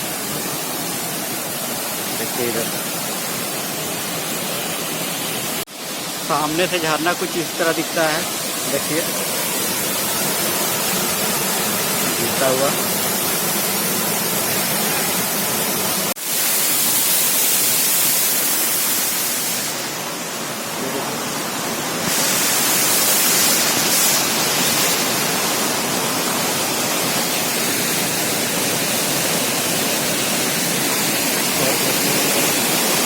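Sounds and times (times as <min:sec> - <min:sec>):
small waterfall pouring: 0:00.0 - 0:33.0.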